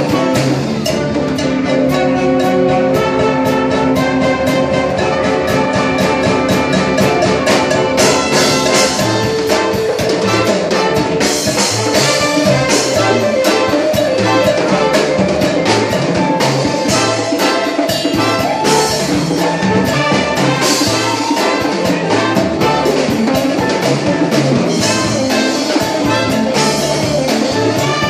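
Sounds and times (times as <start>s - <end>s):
live band playing dance music: 0.0s - 28.0s.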